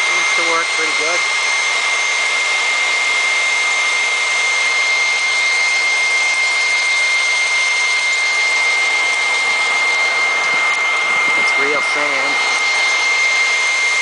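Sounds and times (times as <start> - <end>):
blower whining: 0.0 - 14.0.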